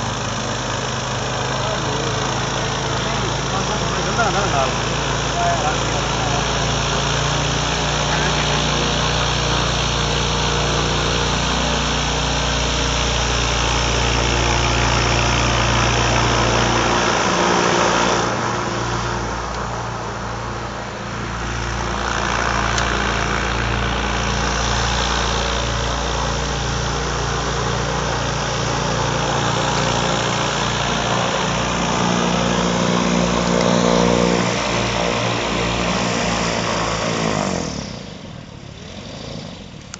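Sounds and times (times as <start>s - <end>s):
boat engine and propeller running: 0.0s - 39.9s.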